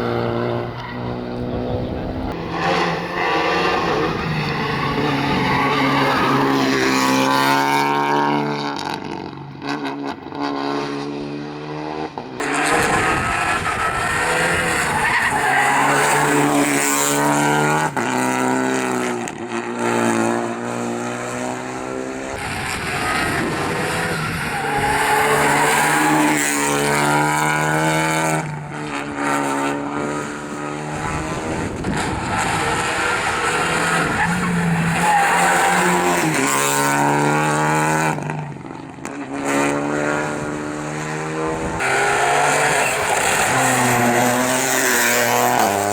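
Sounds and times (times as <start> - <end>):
tyres skidding: 0.0 - 8.3, 12.4 - 19.0, 21.7 - 40.7, 41.5 - 45.9
rally car engine revving: 0.0 - 45.9.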